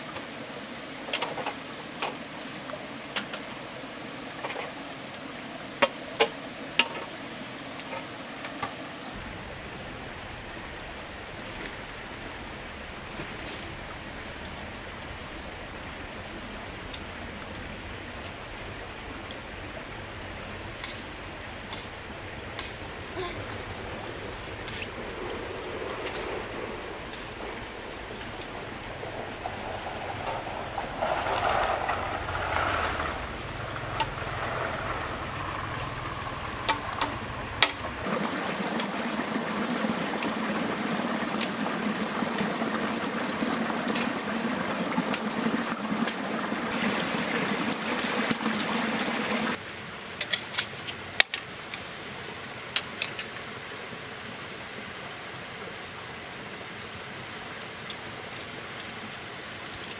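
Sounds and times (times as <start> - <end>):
running stream water: 0.0 - 59.9.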